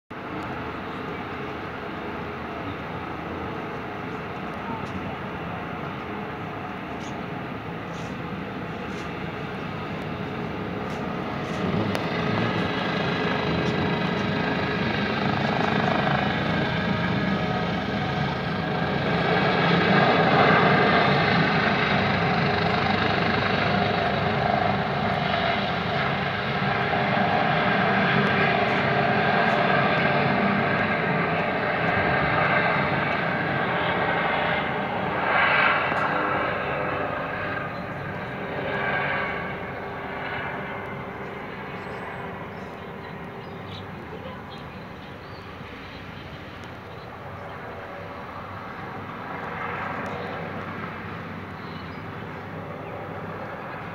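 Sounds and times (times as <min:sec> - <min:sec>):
helicopter flying overhead: 0:00.1 - 0:53.9.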